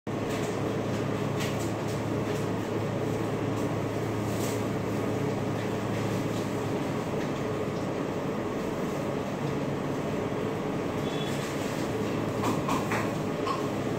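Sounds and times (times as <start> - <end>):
compressor and fan humming: 0.1 - 13.9.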